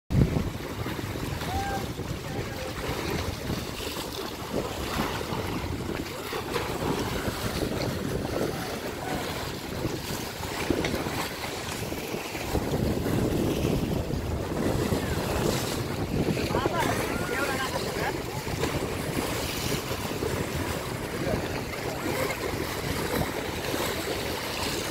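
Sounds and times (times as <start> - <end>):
river waves breaking on bank: 0.1 - 24.9
wind buffeting microphone: 0.1 - 24.9.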